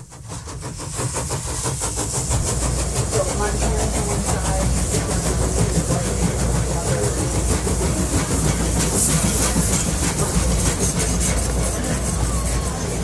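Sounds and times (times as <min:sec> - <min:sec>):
train rumbling on rails: 0:00.0 - 0:13.0
wheels rattling on track: 0:00.0 - 0:13.0.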